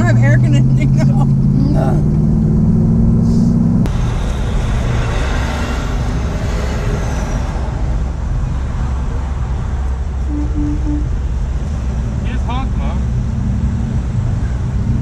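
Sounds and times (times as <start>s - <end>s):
road and wind noise: 0.0s - 15.0s
truck engine hum: 0.0s - 15.0s.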